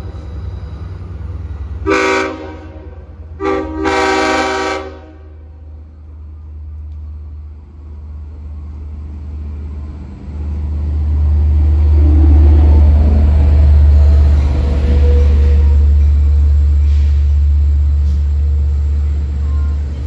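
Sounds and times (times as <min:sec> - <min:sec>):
diesel train rumbling past: 0:00.0 - 0:20.0.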